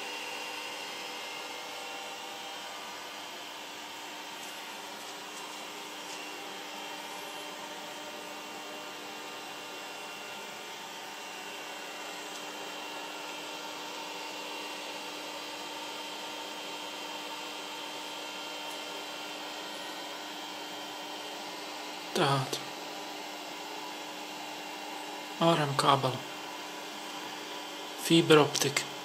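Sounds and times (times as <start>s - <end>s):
server cooling fans: 0.0s - 29.0s.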